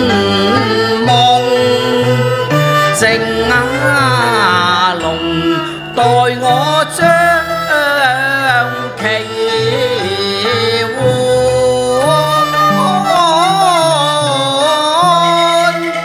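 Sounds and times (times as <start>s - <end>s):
held low notes: 0.0s - 15.0s
opera music from mixed band: 0.0s - 16.0s
sliding wavering melody: 0.0s - 16.0s.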